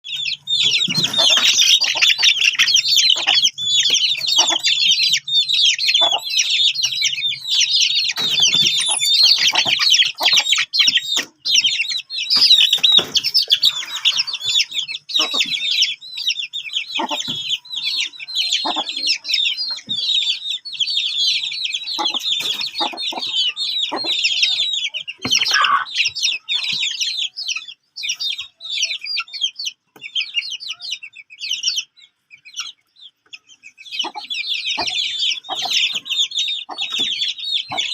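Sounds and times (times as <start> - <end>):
chicks peeping: 0.0 - 37.9.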